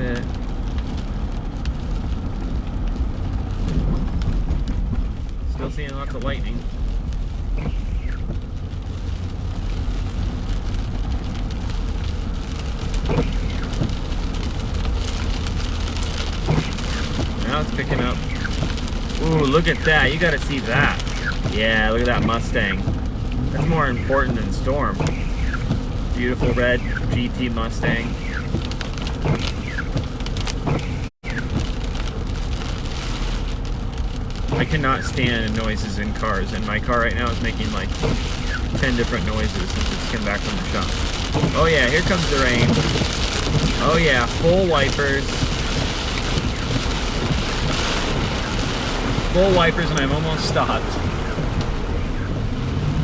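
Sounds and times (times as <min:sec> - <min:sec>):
car driving rumble: 0:00.0 - 0:53.0
low engine and road hum: 0:00.0 - 0:53.0
rain on car windshield: 0:00.0 - 0:53.0
windshield wiper squeaking: 0:02.2 - 0:53.0.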